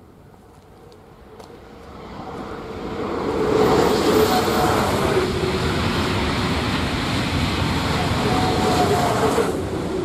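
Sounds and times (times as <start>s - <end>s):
high-speed train rushing past: 1.0s - 10.0s.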